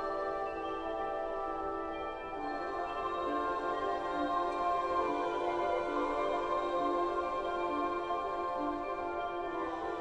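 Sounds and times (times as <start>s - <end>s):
slow ambient music: 0.0s - 10.0s.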